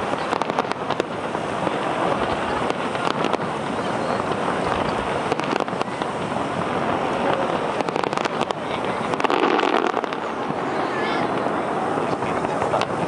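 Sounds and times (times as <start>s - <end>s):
fireworks bangs and crackles: 0.0s - 13.0s
steady noisy background: 0.0s - 13.0s.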